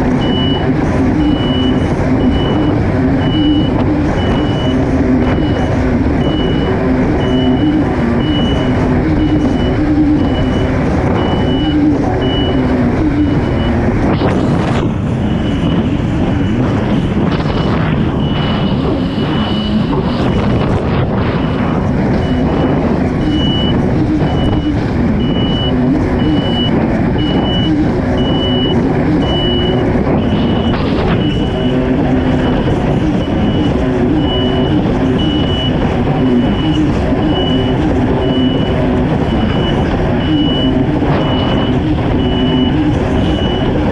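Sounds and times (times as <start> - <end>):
water and wind rush: 0.0 - 43.9
watercraft engine running: 0.0 - 43.9
short high-pitched beep: 0.2 - 14.5, 17.4 - 20.7, 22.2 - 43.8.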